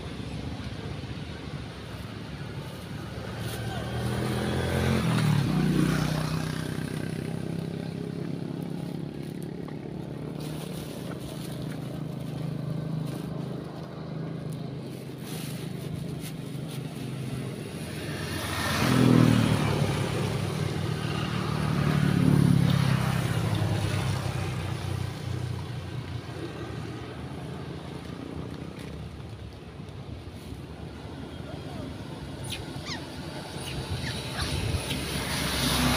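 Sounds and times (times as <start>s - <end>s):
vehicles passing close by: 0.0s - 35.9s.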